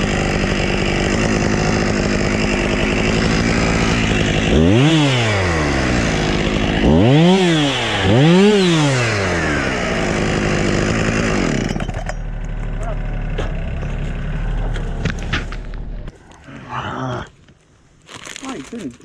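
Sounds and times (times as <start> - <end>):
chainsaw idling and revving: 0.0 - 15.9.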